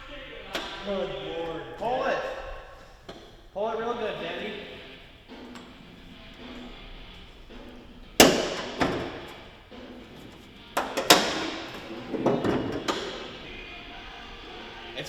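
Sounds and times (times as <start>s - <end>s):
metal knocks and clanks: 0.0s - 15.0s.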